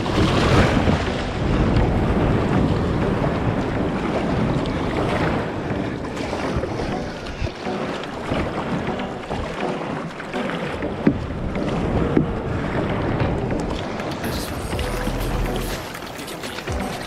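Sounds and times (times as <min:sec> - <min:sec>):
wind buffeting microphone: 0:00.0 - 0:14.9
water sloshing and splashing: 0:00.0 - 0:17.0.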